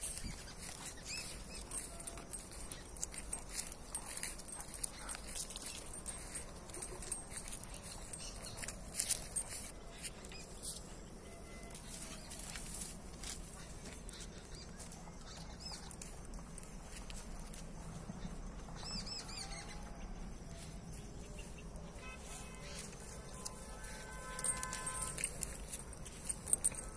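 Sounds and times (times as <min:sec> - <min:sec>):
footsteps on dirt track: 0:00.0 - 0:11.0, 0:11.6 - 0:26.9.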